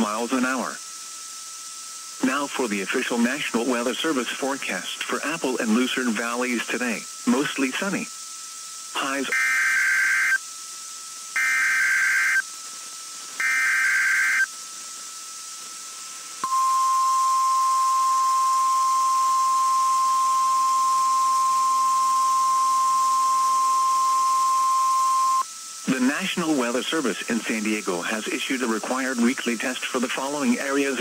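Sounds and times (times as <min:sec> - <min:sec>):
steady warning alarm tone: 0:00.0 - 0:28.1
digital data bursts: 0:00.0 - 0:31.0.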